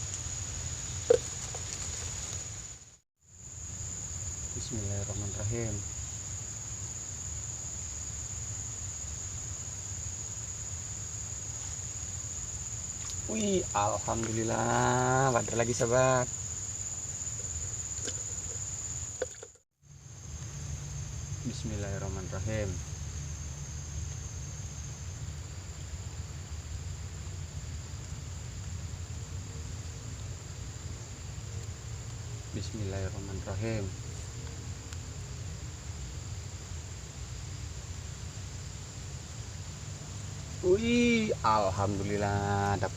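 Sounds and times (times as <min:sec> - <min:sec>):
low rumble with hiss: 0:00.0 - 0:19.2, 0:19.9 - 0:42.9
crickets trilling: 0:00.0 - 0:42.9
high thin insect drone: 0:00.0 - 0:42.9.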